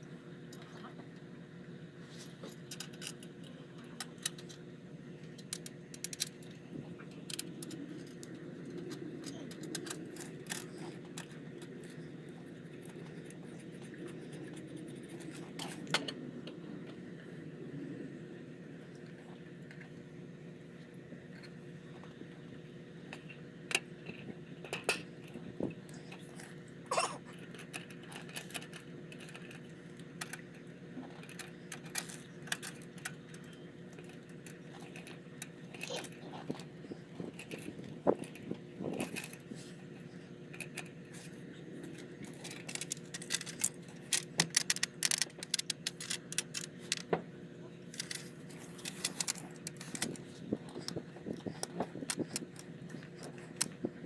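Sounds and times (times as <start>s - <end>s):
steady low hum: 0.0s - 54.0s
small tools clicking and rattling: 2.4s - 16.6s, 23.1s - 47.2s, 47.8s - 54.0s.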